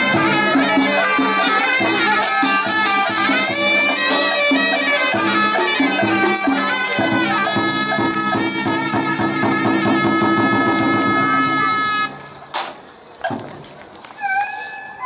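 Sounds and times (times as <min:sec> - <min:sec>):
reedy wind instrument melody: 0:00.0 - 0:12.4, 0:13.2 - 0:15.0
drums and cymbal percussion: 0:00.0 - 0:15.0.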